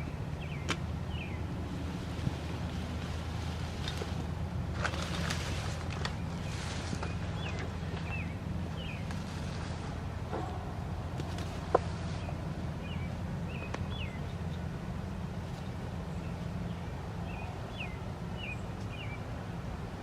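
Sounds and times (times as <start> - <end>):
small birds chirping: 0.0 - 4.3, 4.9 - 19.4
steady low rumble: 0.0 - 20.0.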